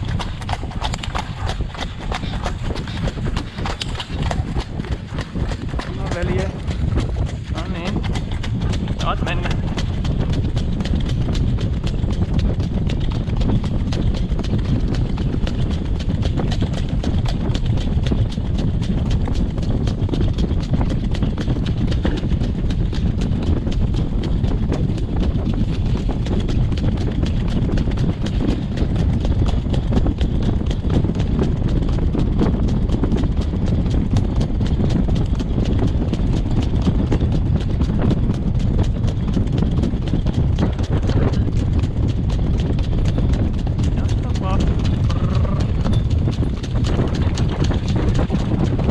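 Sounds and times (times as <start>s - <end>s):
horse hooves clip-clopping on gravel: 0.0s - 48.9s
steady low rumble: 0.0s - 48.9s.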